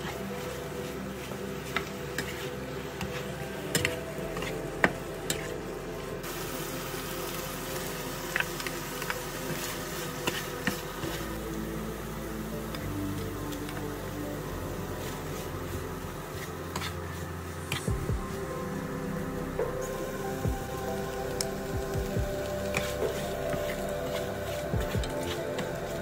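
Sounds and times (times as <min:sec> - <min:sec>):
chicken sizzling in pan: 0:00.0 - 0:26.0.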